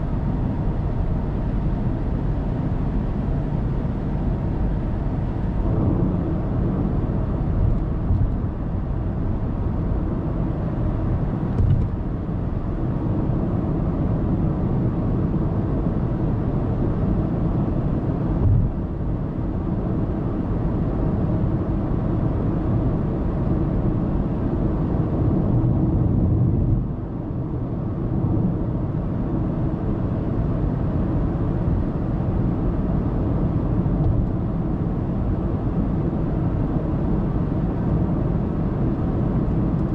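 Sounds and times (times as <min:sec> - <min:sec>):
car engine hum: 0:00.0 - 0:39.9.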